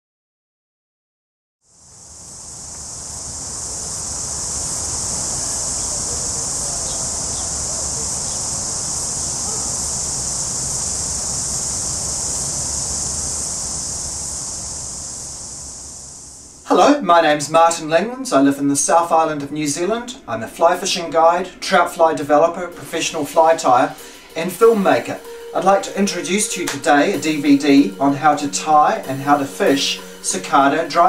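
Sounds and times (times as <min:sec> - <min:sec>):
cicadas singing: 0:01.6 - 0:17.0, 0:18.9 - 0:31.0.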